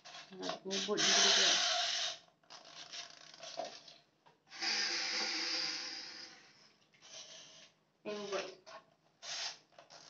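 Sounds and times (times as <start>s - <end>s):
toy boat motor buzzing: 0.0s - 8.6s, 9.2s - 10.0s.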